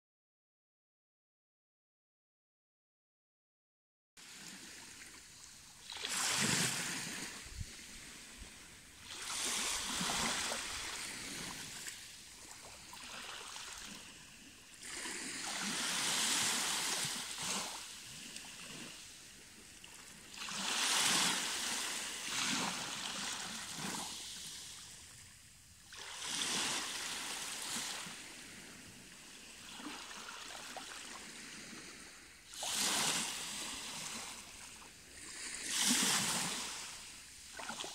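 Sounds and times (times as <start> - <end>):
small waves washing over rocks: 4.3 - 25.0, 25.9 - 37.9.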